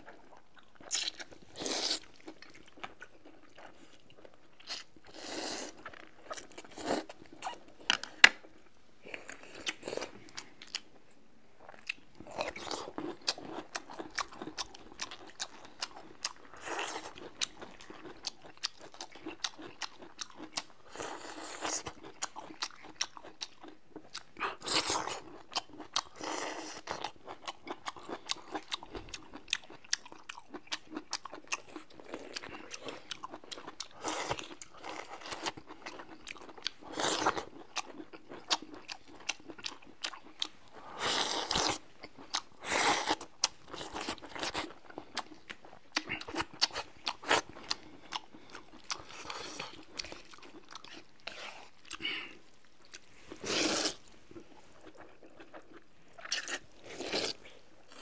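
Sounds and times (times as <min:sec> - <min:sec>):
people chewing and crunching food: 0:00.0 - 0:58.0.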